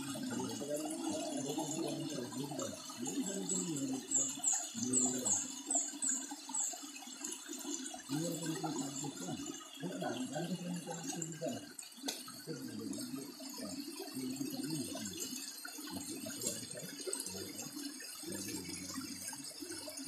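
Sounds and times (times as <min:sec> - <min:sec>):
river water pouring: 0:00.0 - 0:20.0.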